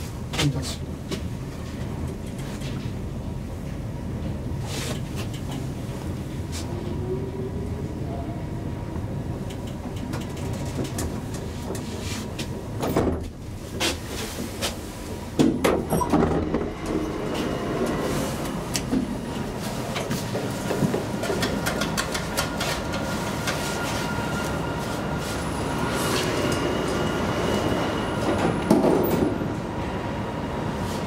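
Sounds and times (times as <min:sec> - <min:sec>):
elevator cab rumbling and rattling: 0:00.0 - 0:30.8.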